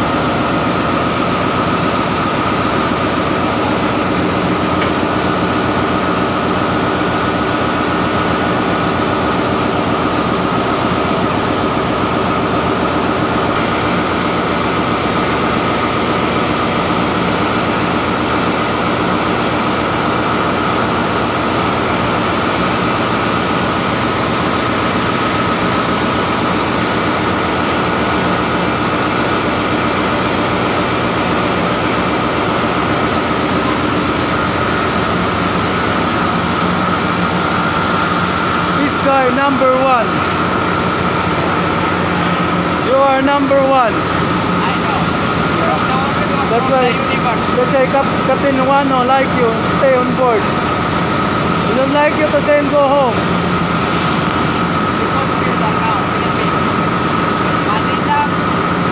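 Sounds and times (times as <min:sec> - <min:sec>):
diesel engine machinery droning: 0:00.0 - 0:58.9.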